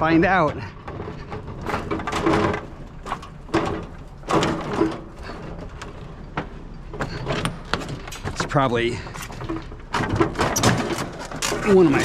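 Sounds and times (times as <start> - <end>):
items knocking and rattling: 0.0 - 12.0.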